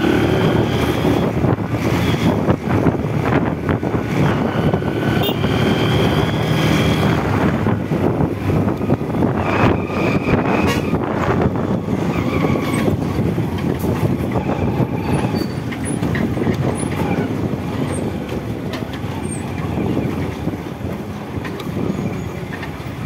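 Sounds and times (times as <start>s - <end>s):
motorcycle engine and road noise: 0.0s - 23.0s
truck engine running: 0.0s - 23.0s.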